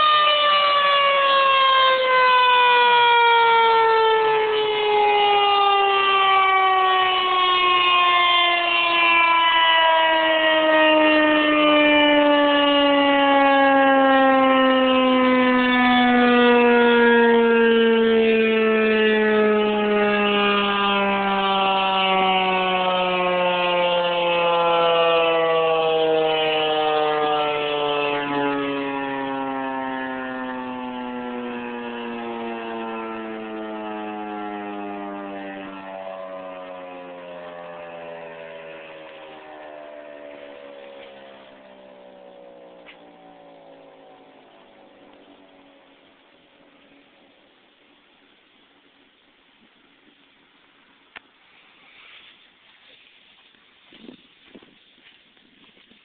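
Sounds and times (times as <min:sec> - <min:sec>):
warning siren winding down: 0:00.0 - 0:47.9.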